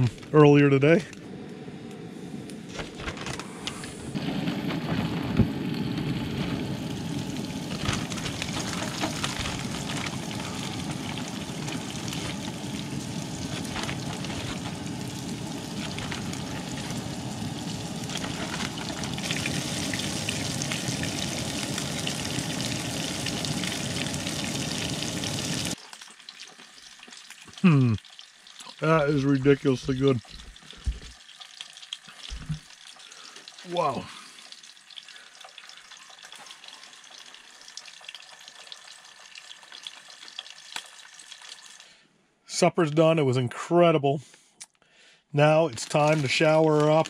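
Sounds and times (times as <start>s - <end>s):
fish sizzling in hot oil: 4.0s - 42.0s, 45.8s - 47.0s.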